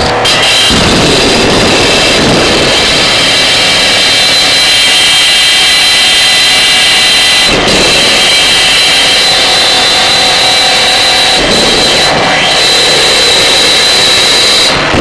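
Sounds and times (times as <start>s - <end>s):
harsh electronic noise music: 0.0s - 15.0s.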